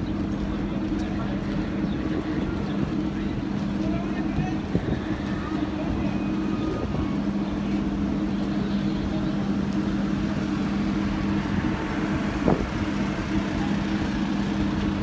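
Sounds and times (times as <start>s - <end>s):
low mechanical hum: 0.0s - 15.0s
outdoor background noise: 0.0s - 15.0s.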